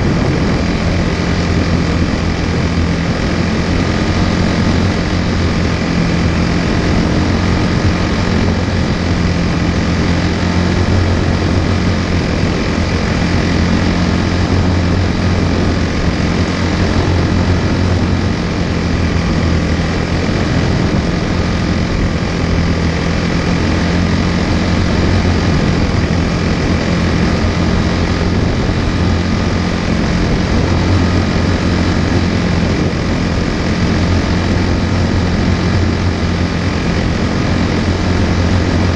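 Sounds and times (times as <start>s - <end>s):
small race car engine running: 0.0s - 38.9s.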